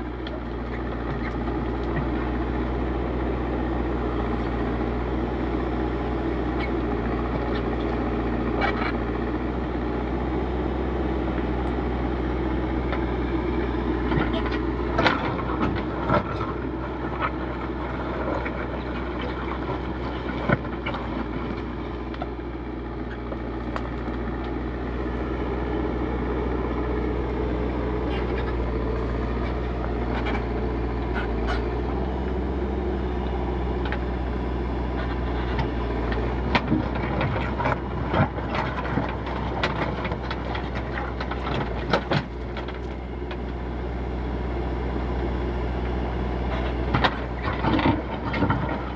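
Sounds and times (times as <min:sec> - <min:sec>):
backhoe diesel engine running: 0:00.0 - 0:48.9.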